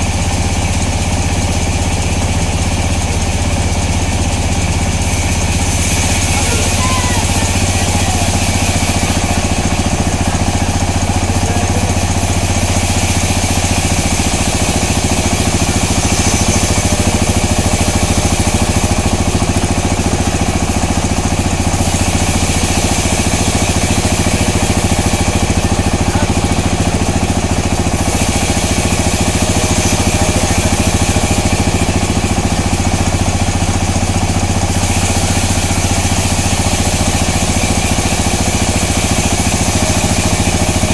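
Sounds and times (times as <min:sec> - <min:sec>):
sawmill machinery drone and rattle: 0:00.0 - 0:40.9
high hiss: 0:05.0 - 0:40.9.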